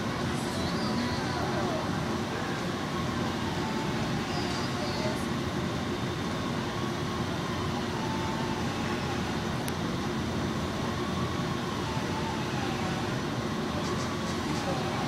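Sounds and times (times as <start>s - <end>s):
ventilation or machinery noise: 0.0s - 15.0s.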